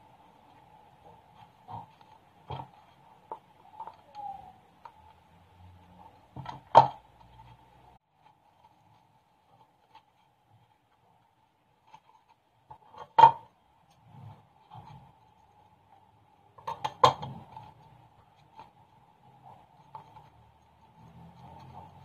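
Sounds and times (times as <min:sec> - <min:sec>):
rustling handling noises: 0:00.0 - 0:22.0.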